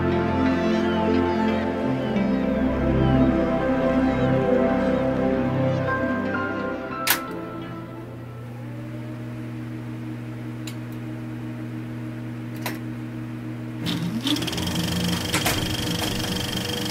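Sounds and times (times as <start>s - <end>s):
low electronic hum chord: 0.0s - 16.9s.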